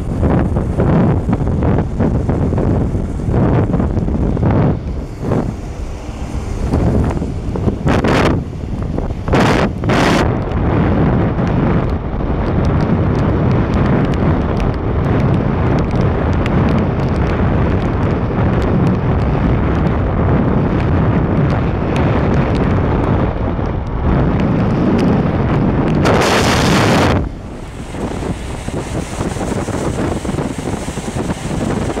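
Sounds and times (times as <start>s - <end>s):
tyres on wet asphalt: 0.0s - 32.0s
vehicle road and wind noise: 0.0s - 32.0s.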